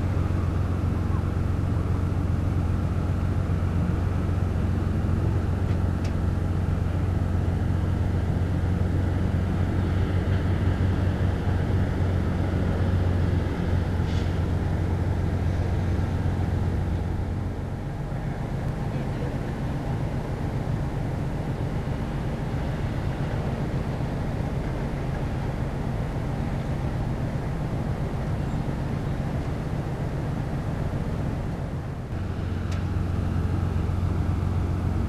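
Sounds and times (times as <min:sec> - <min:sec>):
ship engines humming: 0:00.0 - 0:35.0.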